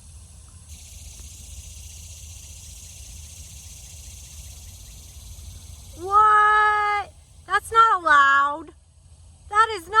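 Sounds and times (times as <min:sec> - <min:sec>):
insect chorus trilling: 0:00.0 - 0:08.2.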